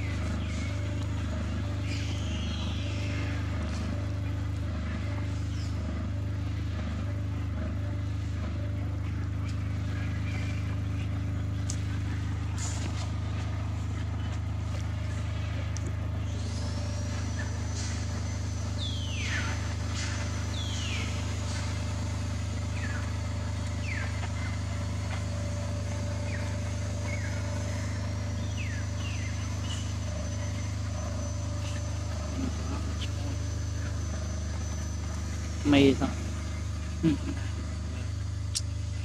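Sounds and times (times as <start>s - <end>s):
engine idling hum: 0.0s - 39.0s
high steady whine: 0.0s - 39.0s.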